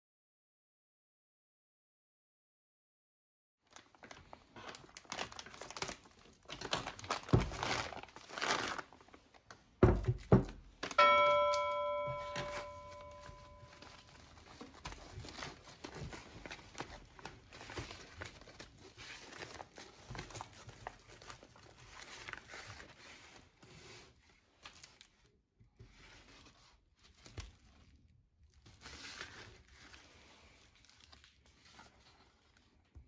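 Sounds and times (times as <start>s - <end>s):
wrapping paper crinkling and tearing: 3.7s - 9.8s, 12.3s - 33.0s.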